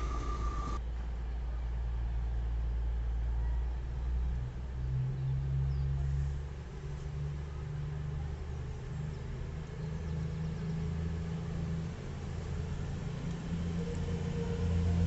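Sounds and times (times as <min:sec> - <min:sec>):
diesel train engine rumbling: 0:00.0 - 0:04.8, 0:05.9 - 0:15.0.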